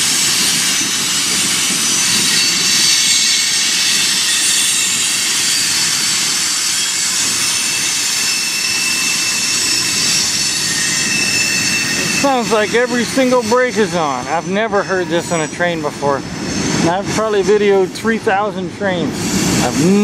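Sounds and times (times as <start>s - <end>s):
train brakes squealing: 0.0s - 20.0s
train wheels rumbling on rails: 0.0s - 20.0s.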